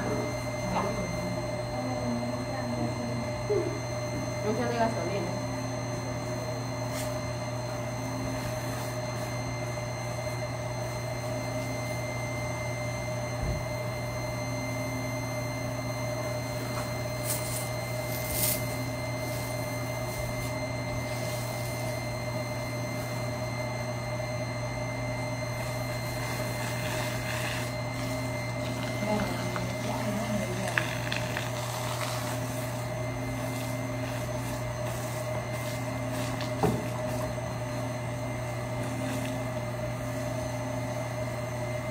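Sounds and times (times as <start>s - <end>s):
machine hum: 0.0s - 41.9s.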